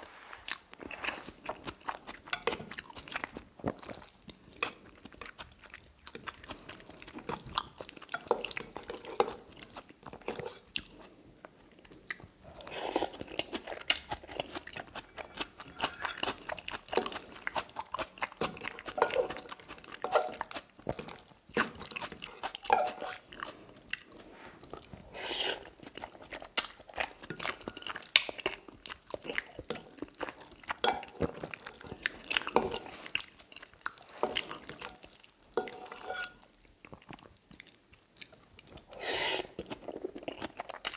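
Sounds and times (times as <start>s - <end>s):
person chewing wet food: 0.2s - 40.9s.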